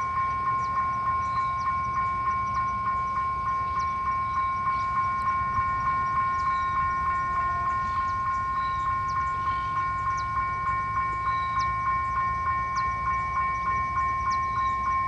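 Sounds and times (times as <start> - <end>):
diesel locomotive rumbling: 0.0 - 15.0
level-crossing warning bell ringing: 0.0 - 15.0.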